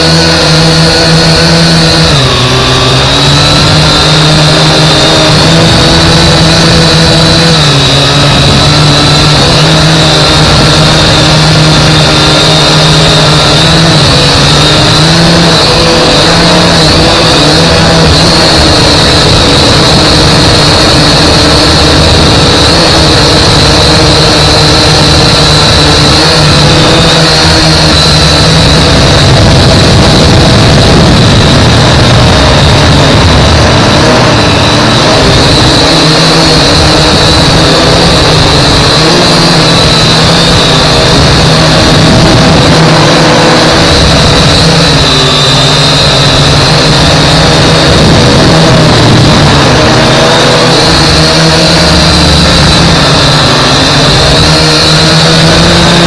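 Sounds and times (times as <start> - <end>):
drone motors high whine: 0.0 - 56.0
wind rumble on microphone: 0.0 - 56.0.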